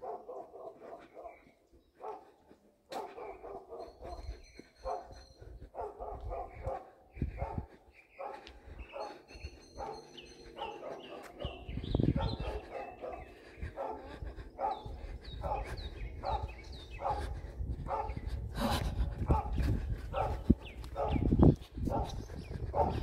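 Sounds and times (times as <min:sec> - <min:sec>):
dog barking: 0:00.0 - 0:18.2, 0:19.2 - 0:23.0.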